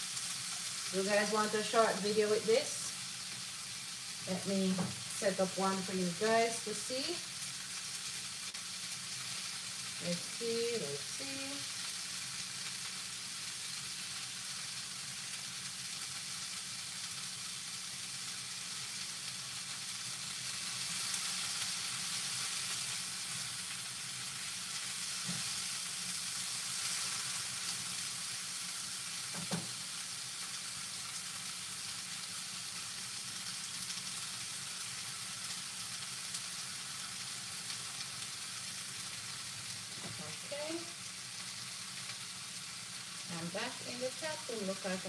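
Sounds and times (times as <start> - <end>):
vegetables sizzling in a frying pan: 0.0 - 45.0.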